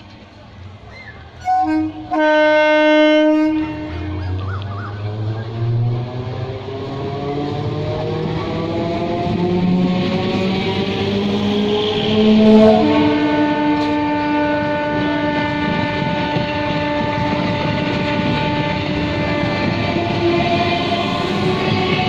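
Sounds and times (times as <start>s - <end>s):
train wheels rumbling on rails: 0.0s - 22.0s
electric train drive whining: 2.8s - 22.0s.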